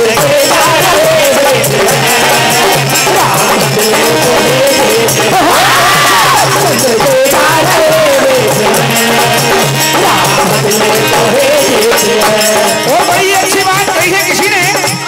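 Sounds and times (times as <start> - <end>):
hand drums: 0.0 - 15.0
wavering devotional melody: 0.0 - 15.0.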